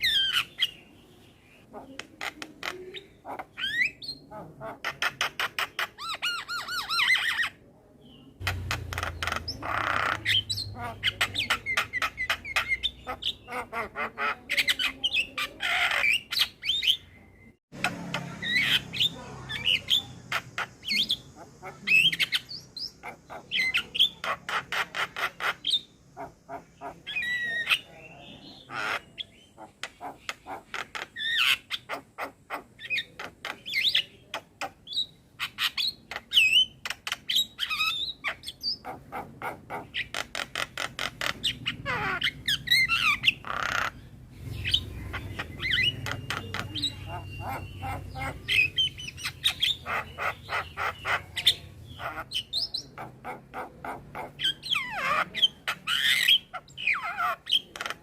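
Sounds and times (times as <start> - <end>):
bird song with clicking chatter: 1.6 - 58.0
bird squawks: 1.7 - 7.6, 8.4 - 17.1, 17.8 - 58.0.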